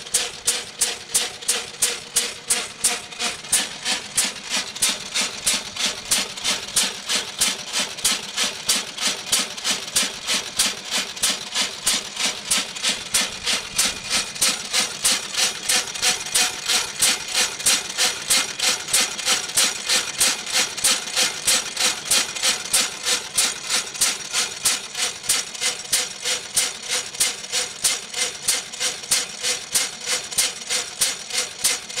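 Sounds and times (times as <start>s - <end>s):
stationary engine running: 0.0s - 32.0s.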